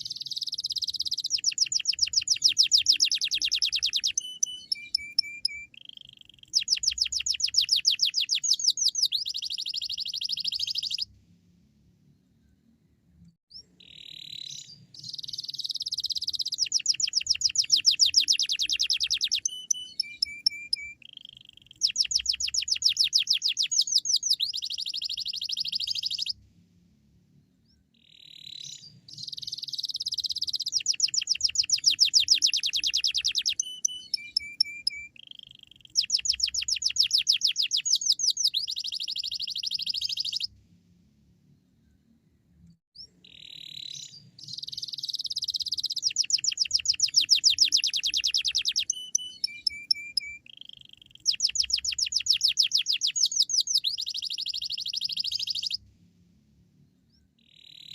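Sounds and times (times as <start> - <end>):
canary singing trills: 0.0 - 11.1, 13.5 - 26.4, 28.0 - 40.6, 43.0 - 55.8, 57.2 - 57.9.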